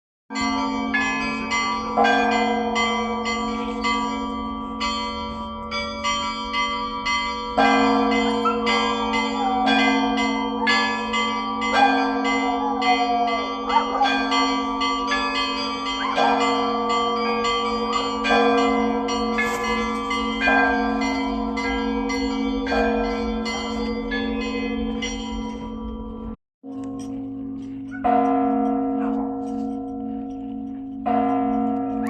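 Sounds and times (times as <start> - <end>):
heavy bell strikes: 0.3 - 32.0
hum of large bells: 0.3 - 32.0.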